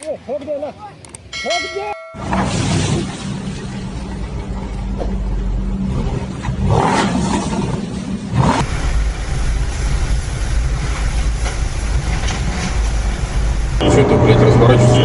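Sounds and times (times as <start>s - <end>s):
vehicle engine droning: 2.0s - 15.0s.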